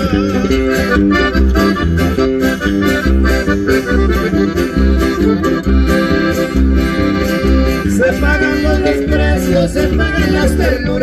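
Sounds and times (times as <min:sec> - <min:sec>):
accordion melody: 0:00.0 - 0:11.0
steady bass beat: 0:00.0 - 0:11.0.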